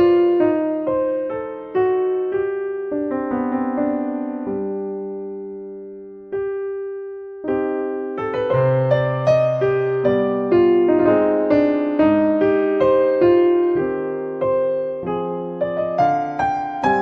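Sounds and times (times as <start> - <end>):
electric piano music: 0.0 - 17.0.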